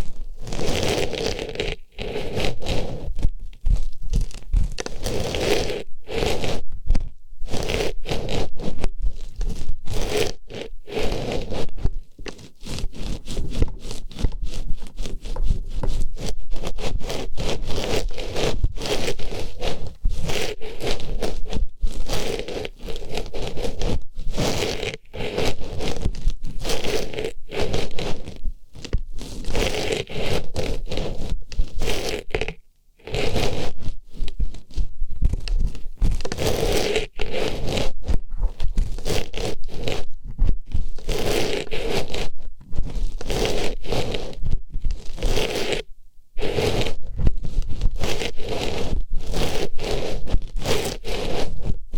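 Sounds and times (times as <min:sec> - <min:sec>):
scraping and rustling on microphone: 0:00.0 - 0:51.9.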